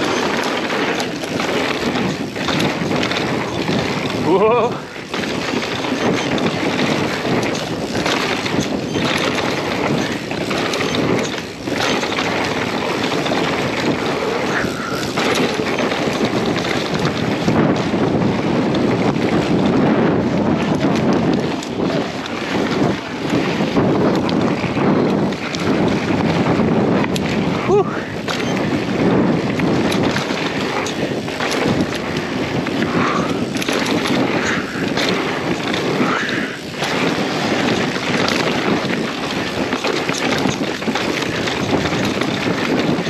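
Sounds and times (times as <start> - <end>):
tyre and trail noise: 0.0 - 43.0
wind buffeting microphone: 0.0 - 43.0.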